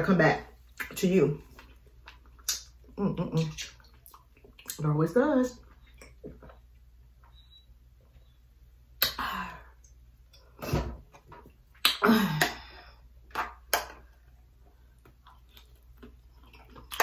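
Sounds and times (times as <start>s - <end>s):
mouth noises eating and drinking: 0.6s - 17.0s.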